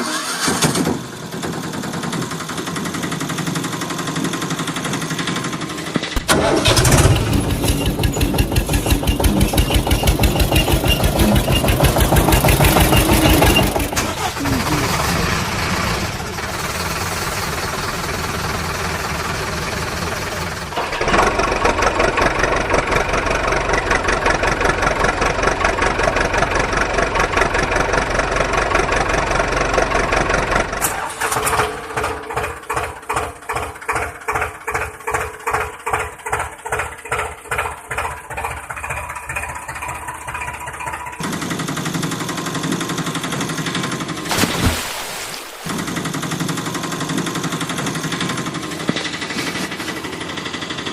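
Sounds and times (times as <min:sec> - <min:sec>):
vehicle engines: 0:00.0 - 0:50.9
slow engine chugging: 0:01.0 - 0:44.3, 0:45.7 - 0:50.9.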